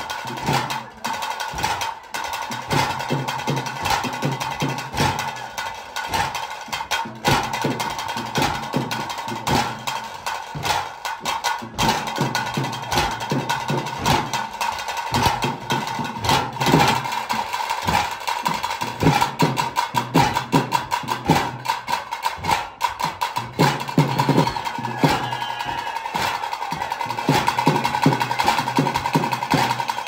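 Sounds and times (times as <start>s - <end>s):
drums beaten with sticks: 0.0s - 30.0s.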